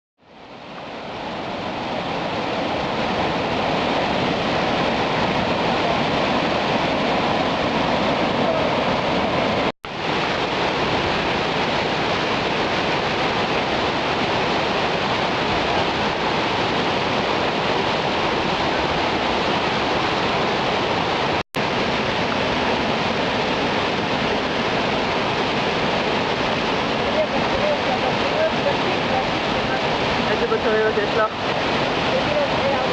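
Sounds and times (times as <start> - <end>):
floodwater rushing: 0.2 - 32.9.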